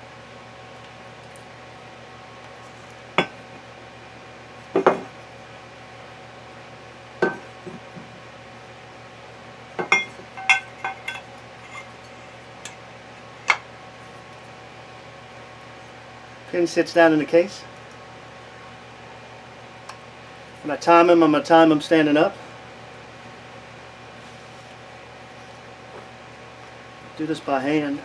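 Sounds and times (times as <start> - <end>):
background hum: 0.0 - 28.0.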